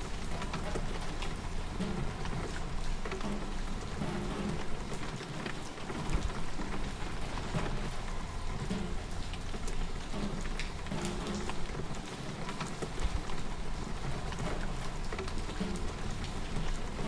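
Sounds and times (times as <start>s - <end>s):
rain falling: 0.0s - 17.0s
raindrops tapping: 0.0s - 17.0s.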